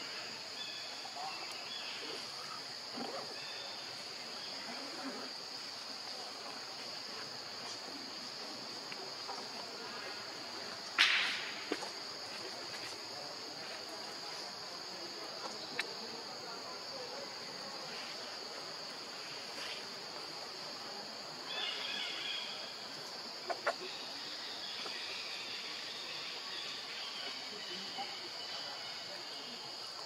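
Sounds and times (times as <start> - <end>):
forest insects droning: 0.0 - 30.0.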